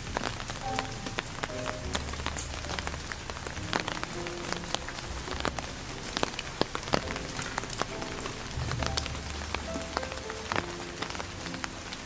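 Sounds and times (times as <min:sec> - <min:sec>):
music of held notes: 0:00.0 - 0:12.0.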